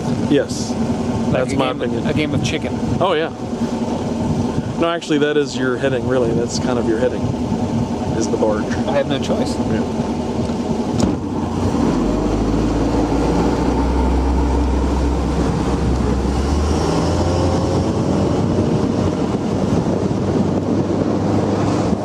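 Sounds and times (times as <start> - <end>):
motorboat engine running: 0.0 - 22.0
water noise: 0.0 - 22.0
wind on microphone: 0.0 - 22.0.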